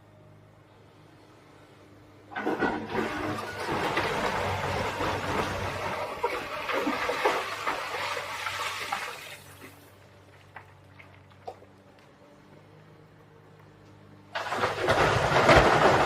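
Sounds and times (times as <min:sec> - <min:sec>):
excavator engine humming: 0:00.0 - 0:16.0.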